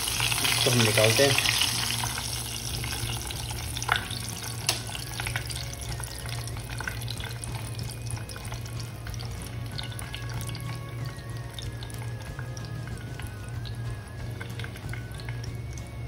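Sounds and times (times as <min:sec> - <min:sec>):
hot oil bubbling and crackling: 0:00.0 - 0:16.0
oil dripping: 0:00.0 - 0:16.0.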